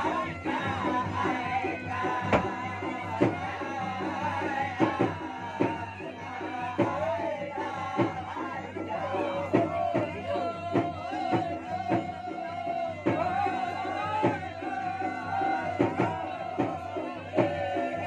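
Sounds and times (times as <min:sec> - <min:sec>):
drums playing a driving rhythm: 0:00.0 - 0:18.0.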